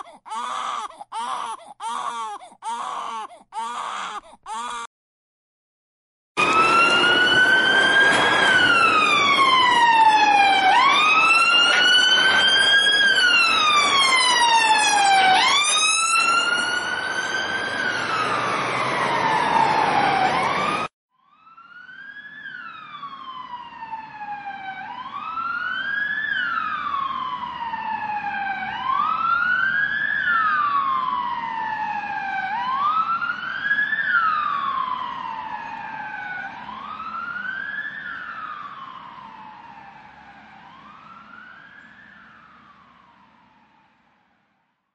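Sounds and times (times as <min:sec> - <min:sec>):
emergency siren wailing: 0:06.4 - 0:44.2
quieter siren wailing: 0:06.4 - 0:44.2.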